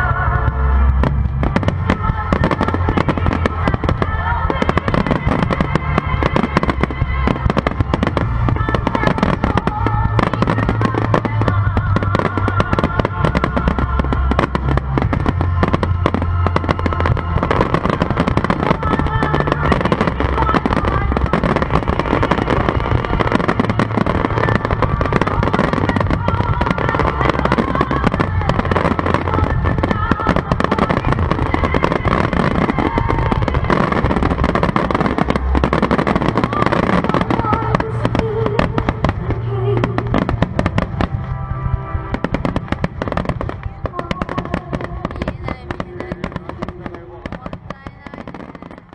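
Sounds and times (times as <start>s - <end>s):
deep fireworks booms: 0.0s - 48.9s
fireworks bursts and crackling: 0.0s - 48.9s.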